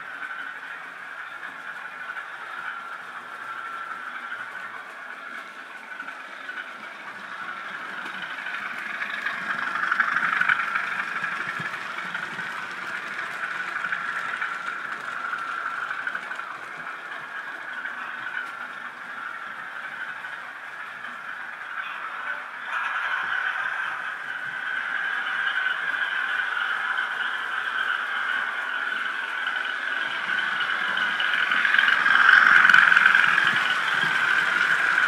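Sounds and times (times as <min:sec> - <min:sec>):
model train running on track: 0:00.0 - 0:35.0.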